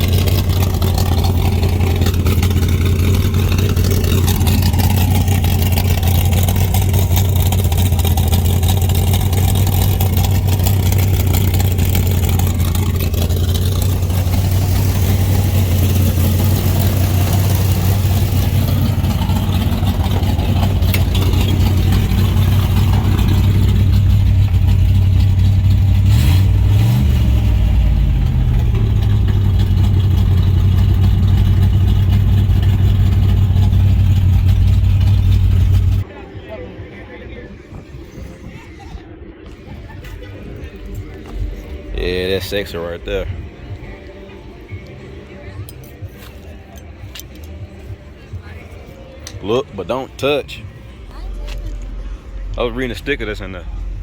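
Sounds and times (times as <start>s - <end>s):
car engine and exhaust droning: 0.0s - 54.0s.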